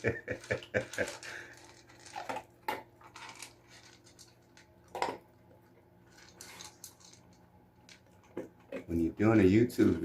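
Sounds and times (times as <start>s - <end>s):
dog eating from bowl: 0.4s - 9.0s.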